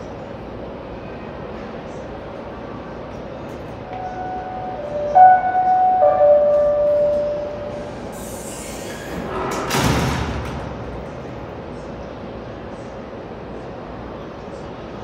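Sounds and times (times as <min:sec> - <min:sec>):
idling train hum: 0:00.0 - 0:15.0.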